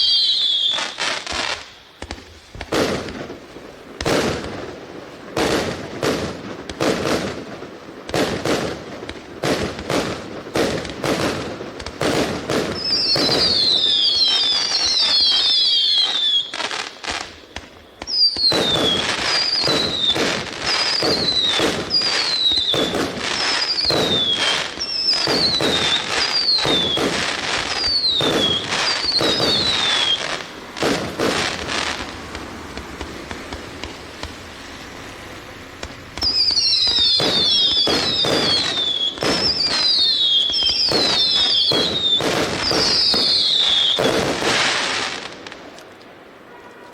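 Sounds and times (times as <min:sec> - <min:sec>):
falling firework whistles: 0:00.0 - 0:45.9
firework shots firing: 0:00.0 - 0:46.6.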